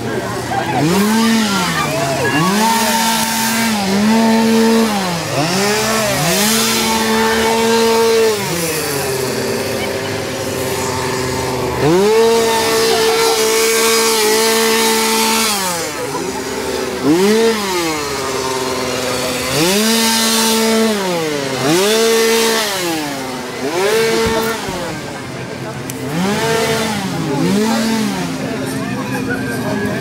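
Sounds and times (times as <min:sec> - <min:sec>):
chainsaw revving: 0:00.0 - 0:30.0.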